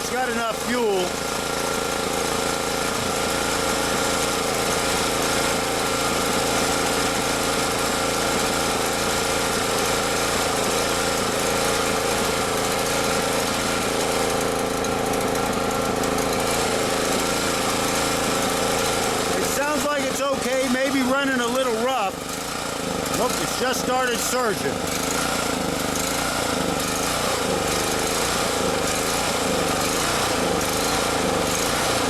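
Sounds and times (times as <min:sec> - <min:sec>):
portable generator engine running: 0:00.0 - 0:32.0.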